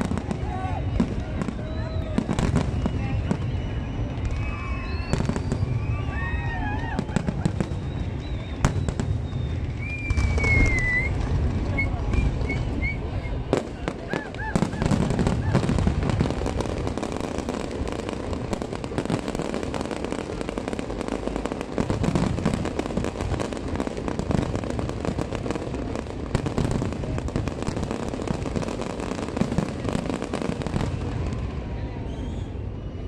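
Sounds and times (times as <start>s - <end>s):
fireworks booming: 0.0s - 33.0s
fireworks crackling: 0.0s - 33.0s.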